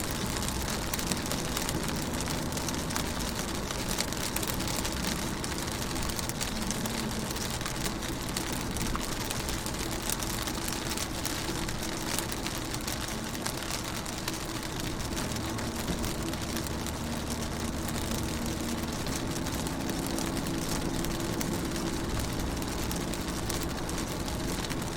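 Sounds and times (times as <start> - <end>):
raindrops tapping window: 0.0 - 24.9.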